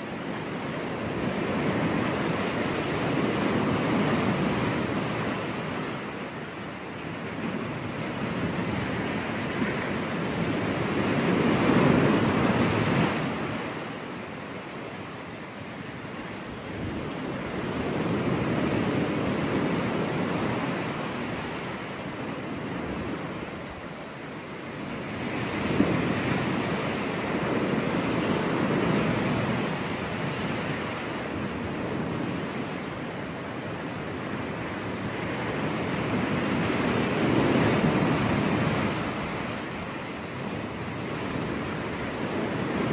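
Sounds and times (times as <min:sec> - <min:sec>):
waves breaking on beach: 0:00.0 - 0:42.9
wind on microphone: 0:07.0 - 0:24.0, 0:24.6 - 0:42.9.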